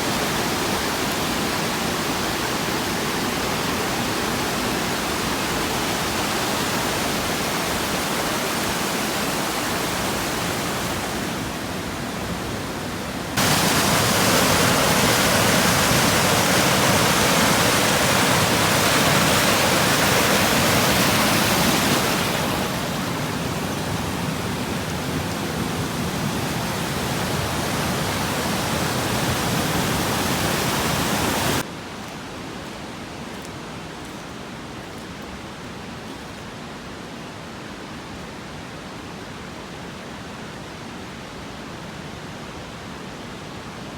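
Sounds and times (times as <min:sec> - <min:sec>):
rush of falling water: 0:00.0 - 0:43.8.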